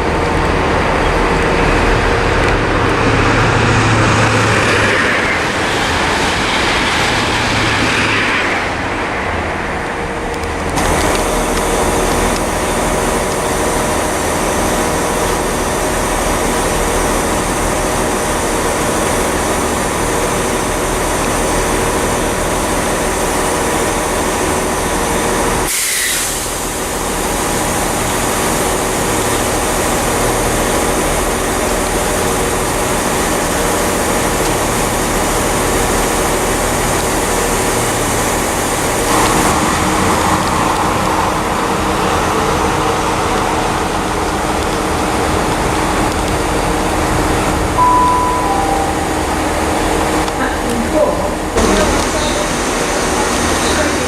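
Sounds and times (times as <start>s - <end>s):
train engine droning: 0.0s - 54.0s
train rushing past: 0.0s - 54.0s.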